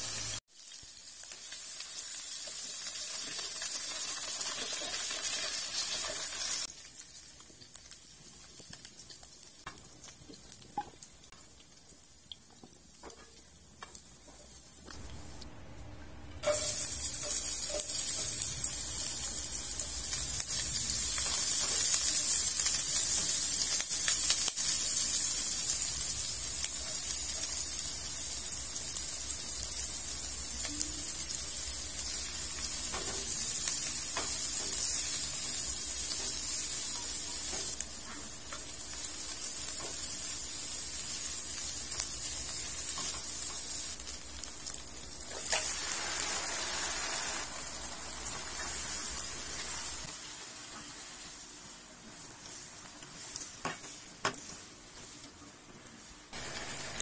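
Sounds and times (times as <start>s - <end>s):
vegetables sizzling in oil: 0.0s - 15.5s, 16.4s - 57.0s.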